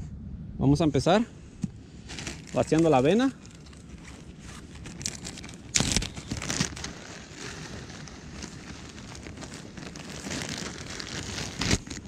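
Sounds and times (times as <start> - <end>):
plastic bags crinkling: 2.0 - 12.0.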